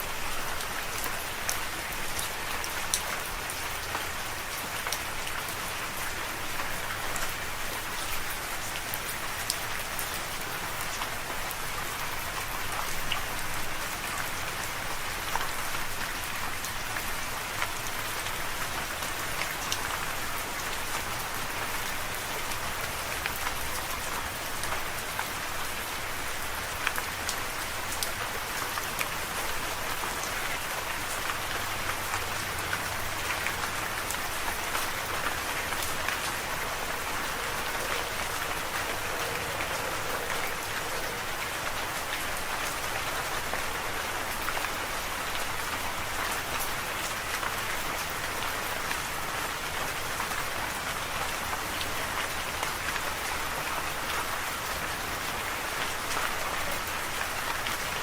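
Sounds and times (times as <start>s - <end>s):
louder raindrops: 0.0s - 58.0s
steady rain falling: 0.0s - 58.0s.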